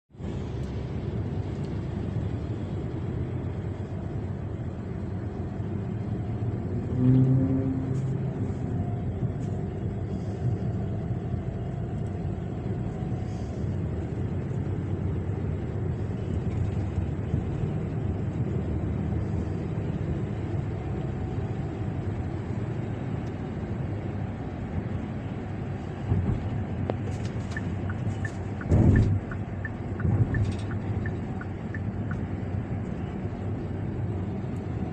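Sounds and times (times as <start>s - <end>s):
car driving on road: 0.1s - 34.9s.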